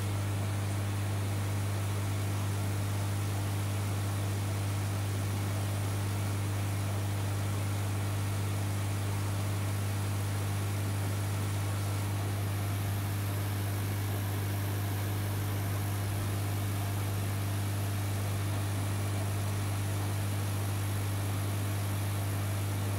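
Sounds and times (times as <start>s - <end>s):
aquarium pump humming: 0.0s - 22.9s.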